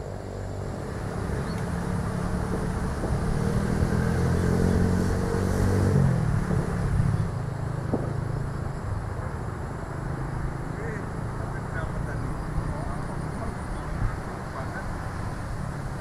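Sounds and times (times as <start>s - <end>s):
motor engine passing by: 0.5s - 16.0s.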